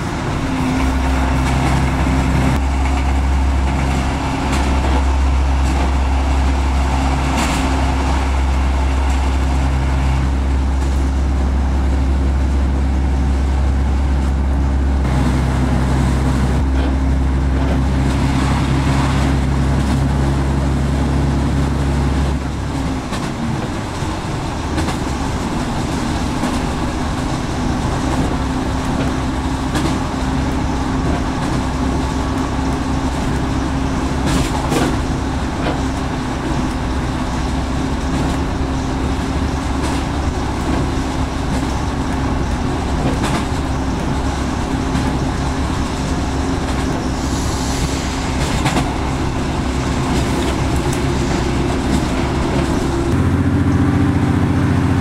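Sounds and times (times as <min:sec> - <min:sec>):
train interior drone: 0:00.0 - 0:55.0
wheels rumbling on track: 0:00.0 - 0:55.0.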